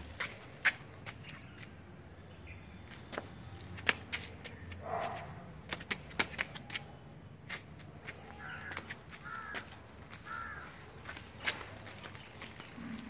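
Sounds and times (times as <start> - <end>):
dog paws clicking on concrete: 0.0 - 1.8, 2.9 - 13.0
person walking on concrete: 0.0 - 1.9, 2.8 - 13.0.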